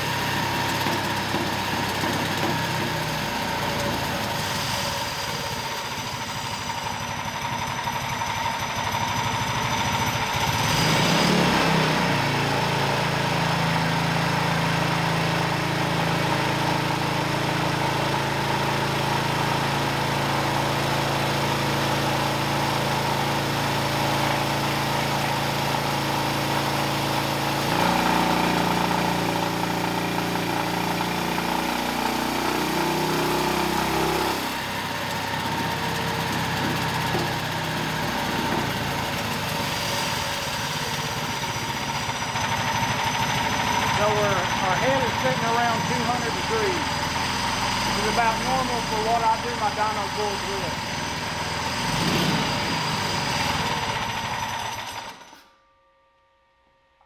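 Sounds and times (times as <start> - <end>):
single-cylinder engine running: 0.0 - 55.4.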